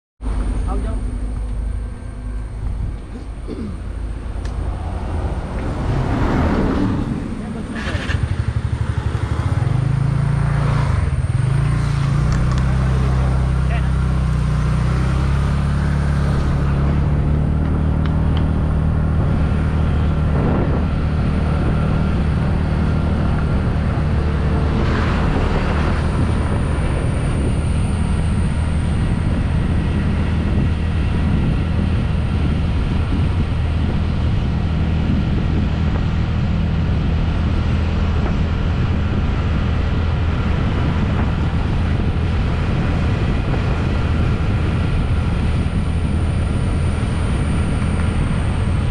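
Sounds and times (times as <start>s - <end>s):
road noise: 0.2s - 48.9s
wind rumble: 0.2s - 48.9s
scooter engine running: 7.0s - 48.9s.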